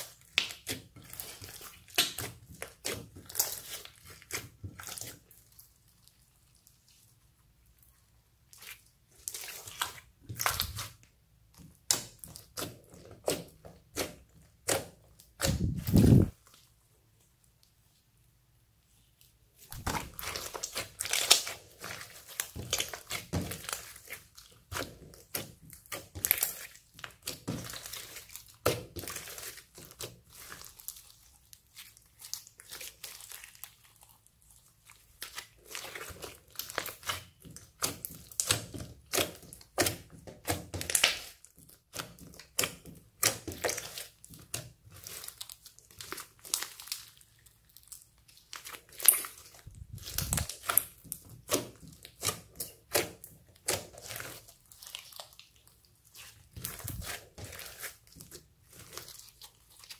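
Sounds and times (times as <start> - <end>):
slime squished by hand: 0.0 - 7.1, 8.4 - 16.7, 19.2 - 59.9.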